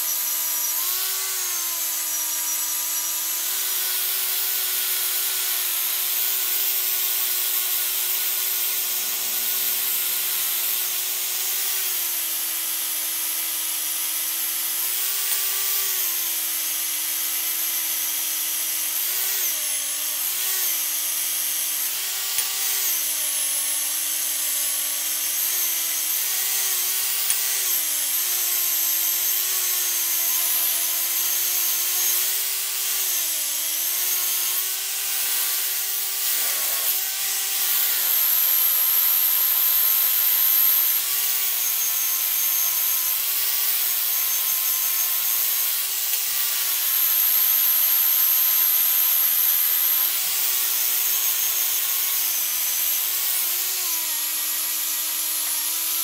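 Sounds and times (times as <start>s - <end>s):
power tool motor whine: 0.0s - 56.0s.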